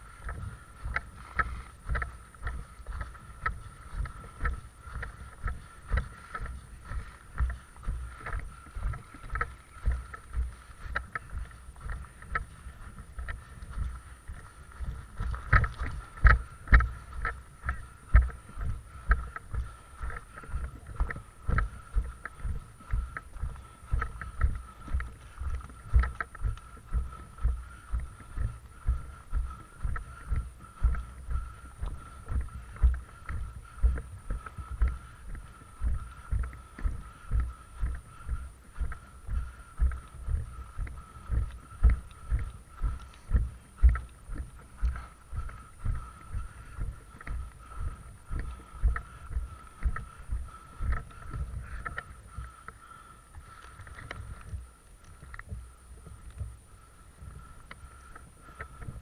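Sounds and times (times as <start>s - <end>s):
footsteps walking: 0.0s - 56.5s
faint steady high whine: 0.0s - 59.0s.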